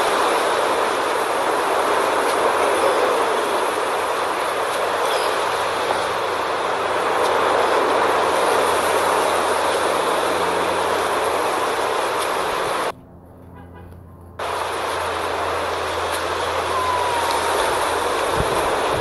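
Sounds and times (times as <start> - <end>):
sea surf: 0.0 - 12.9, 14.4 - 19.0
wind: 0.0 - 19.0.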